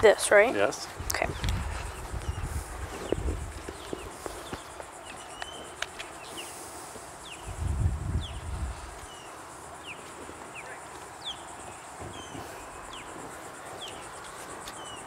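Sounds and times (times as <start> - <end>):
faint hiss: 0.0 - 15.0
insect trill: 0.0 - 15.0.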